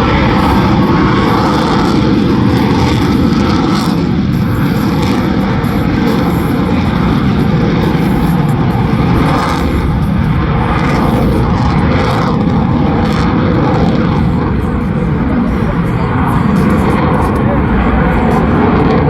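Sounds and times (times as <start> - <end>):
jet aircraft engine roaring: 0.0 - 19.0.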